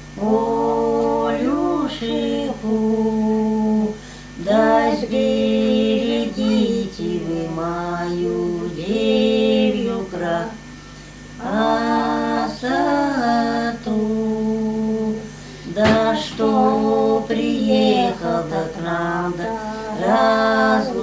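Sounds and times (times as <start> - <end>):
women singing unaccompanied: 0.0 - 10.7, 11.3 - 21.0.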